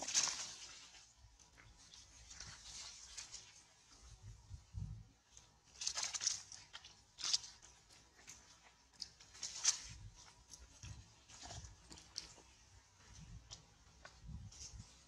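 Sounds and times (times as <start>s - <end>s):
leafy twigs rustling and crackling: 0.0s - 15.0s.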